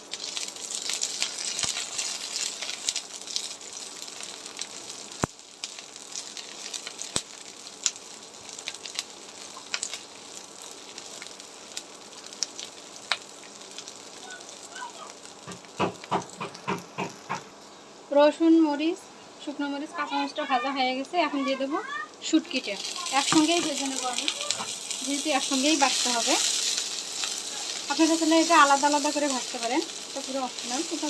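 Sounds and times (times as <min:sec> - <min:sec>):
garlic and chillies sizzling in oil: 0:00.0 - 0:31.0.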